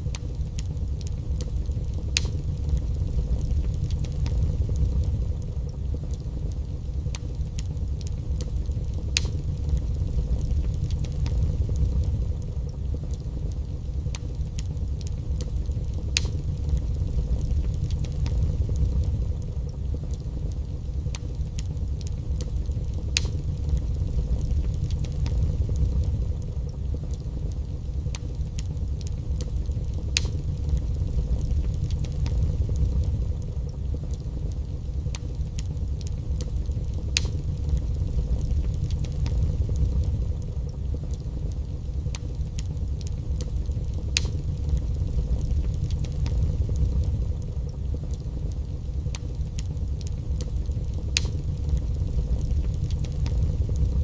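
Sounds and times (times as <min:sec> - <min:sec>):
log fire crackling and popping: 0:00.0 - 0:54.0.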